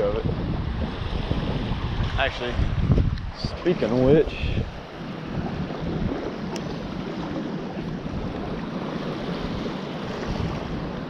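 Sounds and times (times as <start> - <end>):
water: 0.0 - 11.0
wind on microphone: 0.0 - 11.0.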